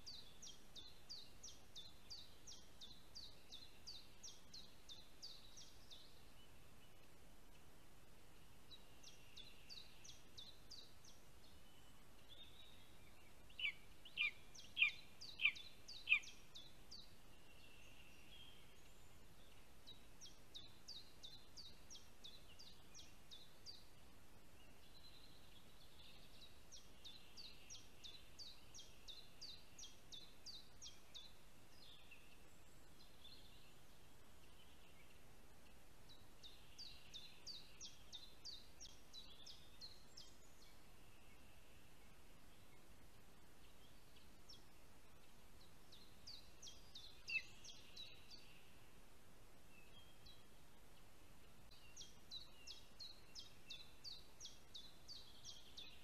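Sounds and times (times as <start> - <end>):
songbirds singing faintly: 0.0 - 56.0.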